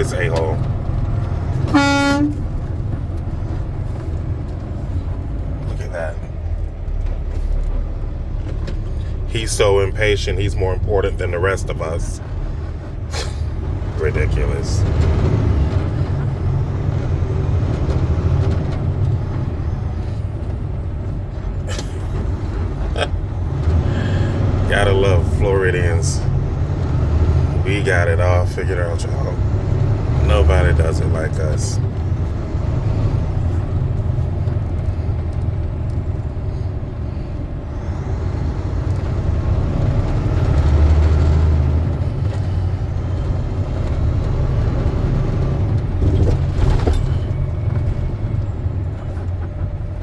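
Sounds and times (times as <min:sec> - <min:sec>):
truck engine rumbling: 0:00.0 - 0:50.0.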